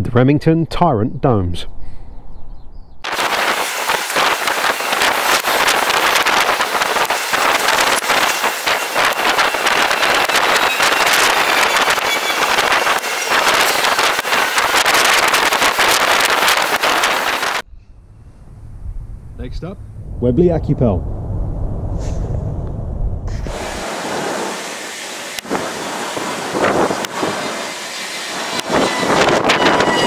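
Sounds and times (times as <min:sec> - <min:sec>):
wind blowing across microphone: 0:01.7 - 0:24.6, 0:25.4 - 0:27.5, 0:28.5 - 0:30.0.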